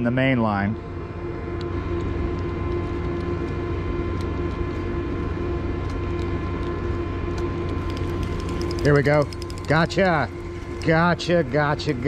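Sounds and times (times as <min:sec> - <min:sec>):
machinery droning hum: 0:00.0 - 0:12.0.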